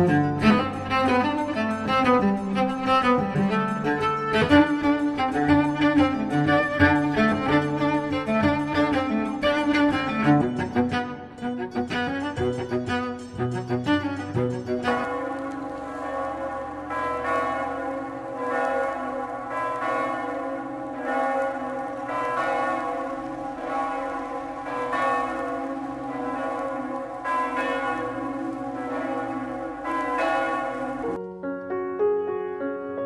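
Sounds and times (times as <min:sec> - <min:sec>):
church bells ringing: 0:00.0 - 0:31.4.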